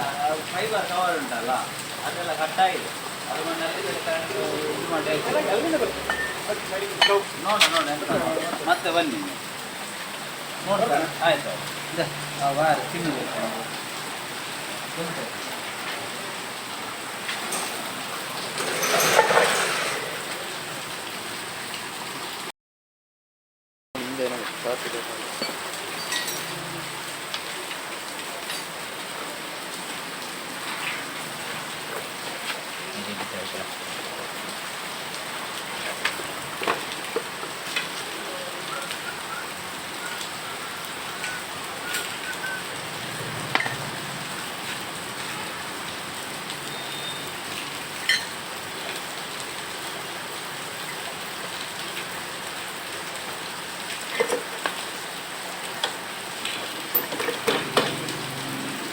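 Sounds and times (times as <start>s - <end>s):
rain hissing: 0.0s - 22.5s, 24.0s - 58.9s.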